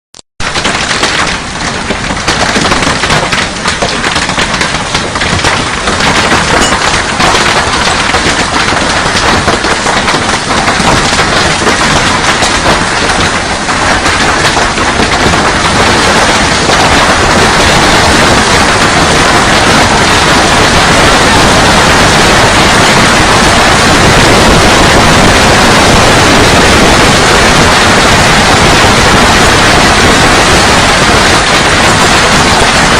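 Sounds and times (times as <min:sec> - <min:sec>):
heavy rain on hard surface: 0:00.4 - 0:32.9.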